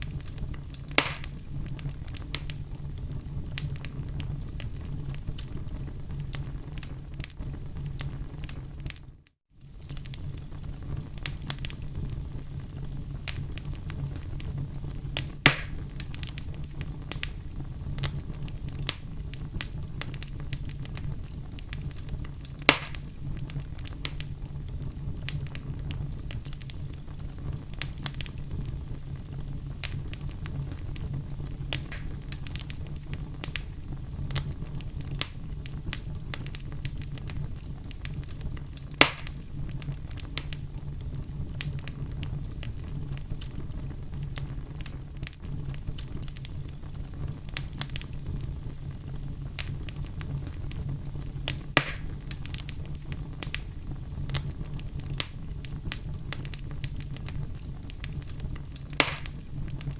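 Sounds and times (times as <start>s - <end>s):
fire crackling: 0.0s - 59.9s
fire popping: 0.0s - 59.9s
wood fire rumble: 0.0s - 59.9s.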